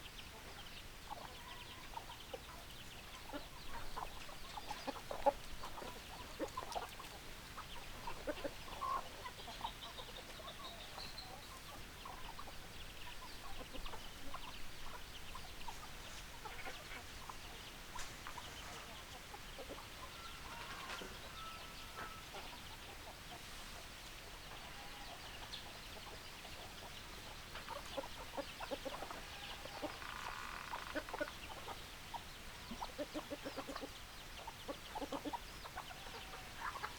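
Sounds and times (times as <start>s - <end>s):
chickens clucking: 0.0s - 36.9s.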